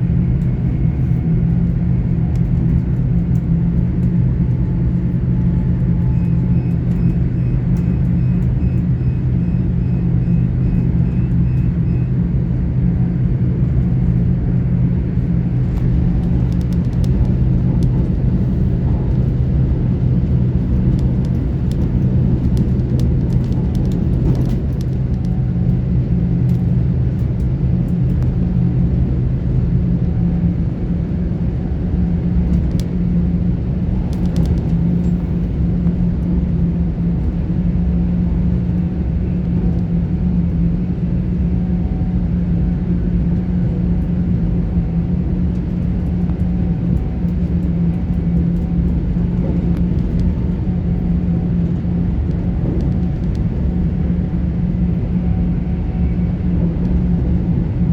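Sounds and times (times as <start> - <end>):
low hum: 0.0 - 57.9
train drive hum: 0.0 - 57.9
train wheels rumbling on rail: 0.0 - 57.9.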